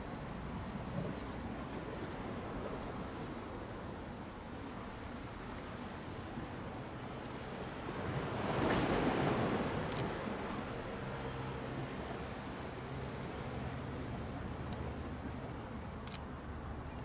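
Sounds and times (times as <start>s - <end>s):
sea waves washing on shore: 0.0s - 17.0s.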